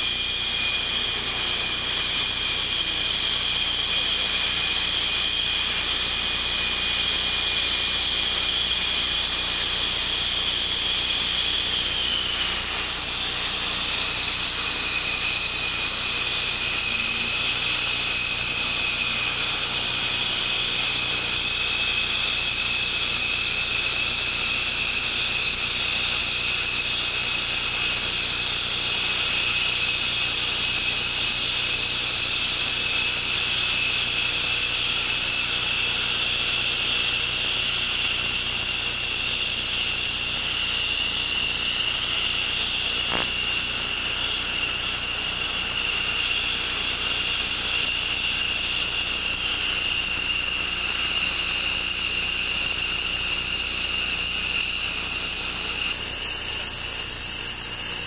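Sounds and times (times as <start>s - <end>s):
jet engines idling whine: 0.0s - 58.0s.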